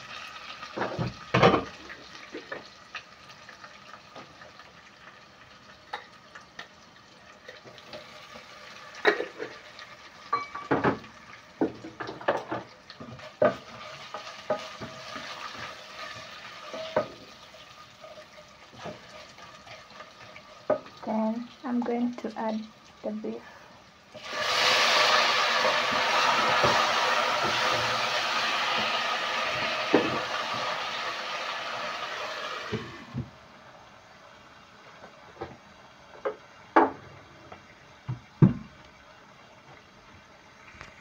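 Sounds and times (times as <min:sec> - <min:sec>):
garlic sizzling in hot oil: 0:00.0 - 0:37.0.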